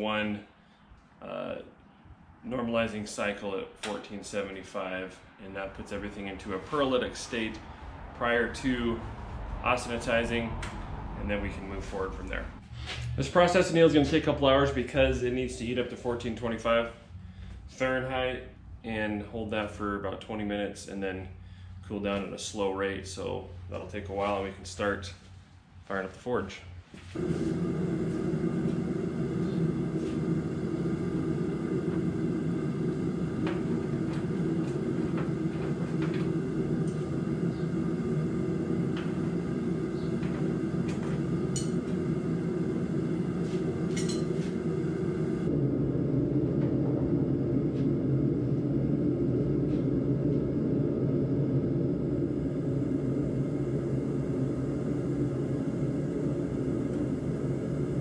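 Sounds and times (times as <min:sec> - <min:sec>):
gas burner rushing rumble: 0:02.4 - 0:25.1, 0:27.0 - 0:58.0.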